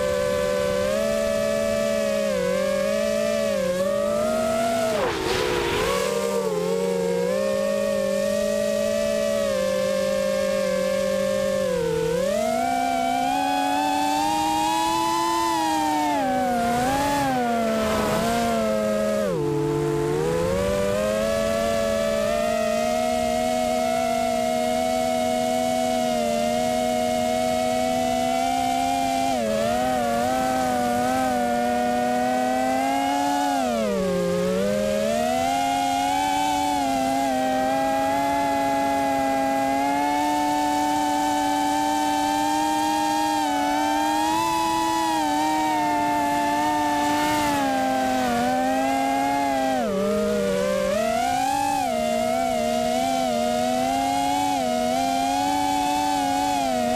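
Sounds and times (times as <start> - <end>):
quadcopter motors whining: 0.0 - 56.9.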